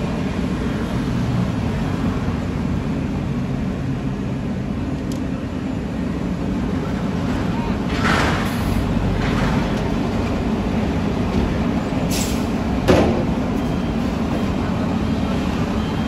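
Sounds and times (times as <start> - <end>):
heavy diesel engines rumbling: 0.0 - 16.0.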